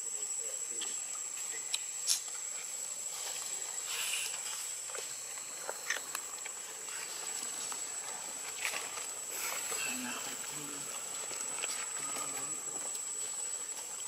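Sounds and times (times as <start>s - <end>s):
forest ambience hiss: 0.0s - 14.0s
high-pitched insect drone: 0.0s - 14.0s
faint clicks and rustles: 0.8s - 14.0s.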